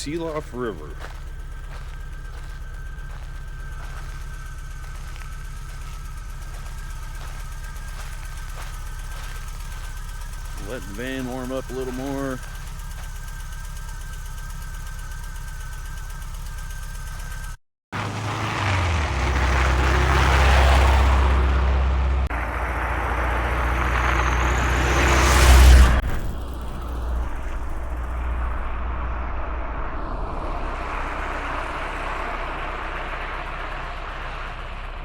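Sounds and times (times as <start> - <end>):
van engine accelerating: 0.0 - 35.0.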